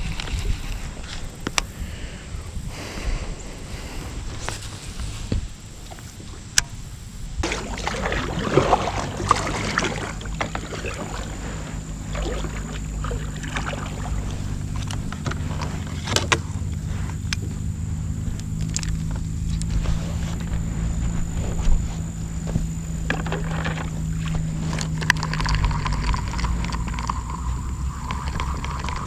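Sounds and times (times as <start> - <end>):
paddle strokes splashing: 0.0 - 29.0
water moving along hull: 0.0 - 29.0.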